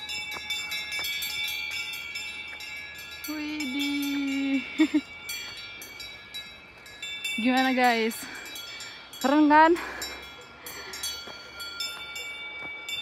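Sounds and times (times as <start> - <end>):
cowbells clanking: 0.0 - 13.0.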